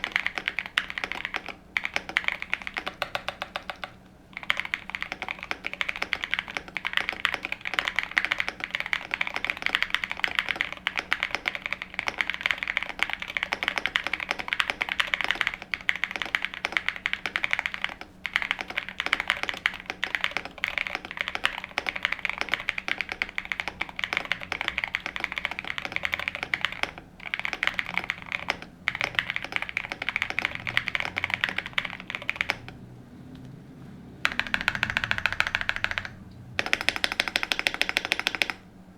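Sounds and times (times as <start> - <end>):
mechanical keyboard typing: 0.0 - 32.8, 34.2 - 38.6.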